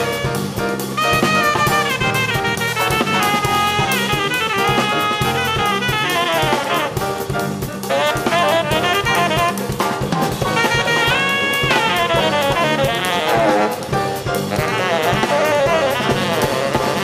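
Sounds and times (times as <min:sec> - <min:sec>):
bass: 0:00.0 - 0:17.0
drum kit with cymbals: 0:00.0 - 0:17.0
grand piano: 0:00.0 - 0:17.0
tenor saxophone runs: 0:00.0 - 0:17.0.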